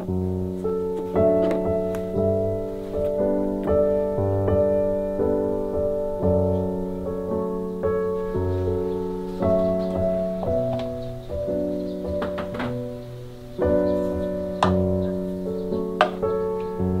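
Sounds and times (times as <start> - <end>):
gentle solo piano chords: 0.0 - 17.0.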